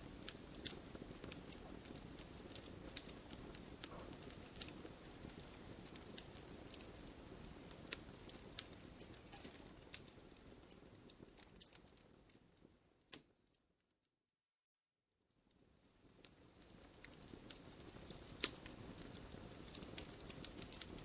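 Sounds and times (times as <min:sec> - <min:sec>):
low rush of burning: 0:00.0 - 0:12.7, 0:16.0 - 0:21.0
campfire crackling and popping: 0:00.0 - 0:13.4, 0:15.5 - 0:21.0.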